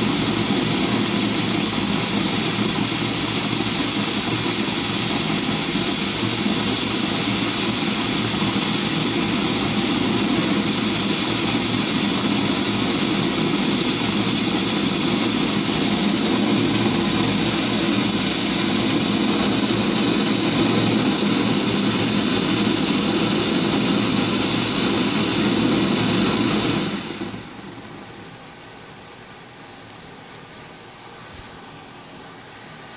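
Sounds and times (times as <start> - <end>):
gas torch flame hissing: 0.0 - 28.4.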